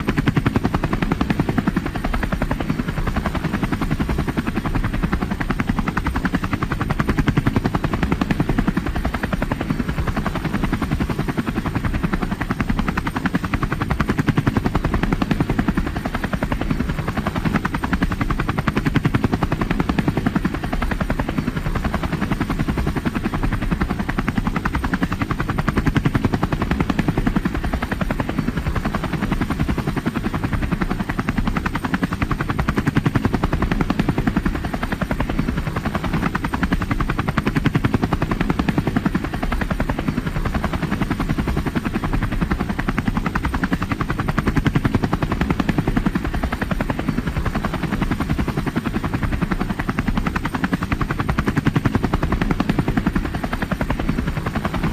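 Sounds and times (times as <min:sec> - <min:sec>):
helicopter engine drone: 0:00.0 - 0:54.9
helicopter rotor chop: 0:00.0 - 0:54.9.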